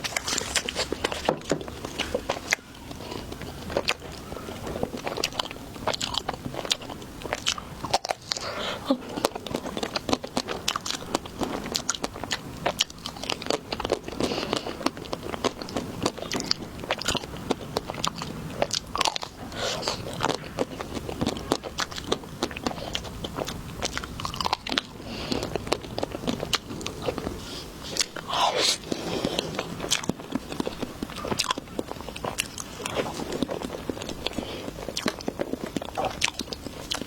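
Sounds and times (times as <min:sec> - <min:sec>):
crunchy bites of fruit: 0:00.0 - 0:37.0.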